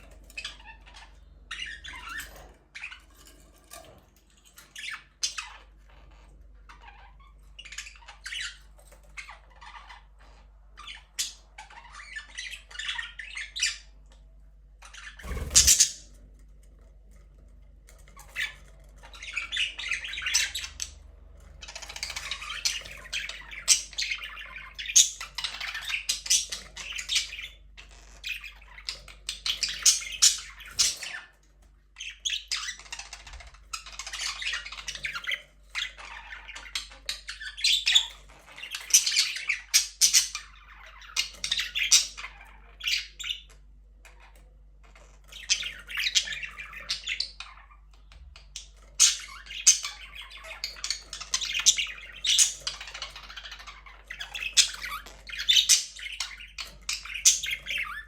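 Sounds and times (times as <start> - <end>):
budgies chirping and squawking: 0.0 - 58.0.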